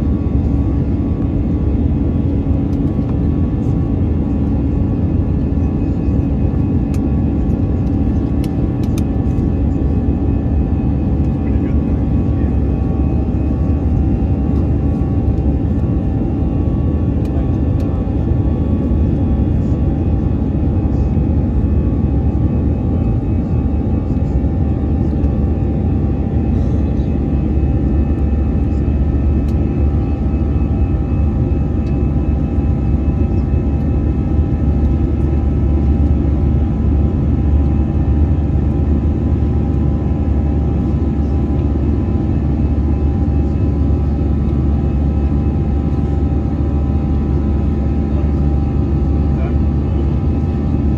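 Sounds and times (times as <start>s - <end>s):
aircraft cabin engine rumble: 0.0s - 50.9s.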